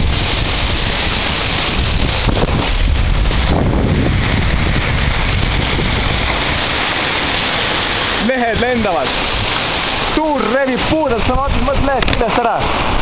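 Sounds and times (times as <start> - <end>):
heavy rain and hail: 0.0 - 13.0
wind buffeting microphone: 0.0 - 13.0.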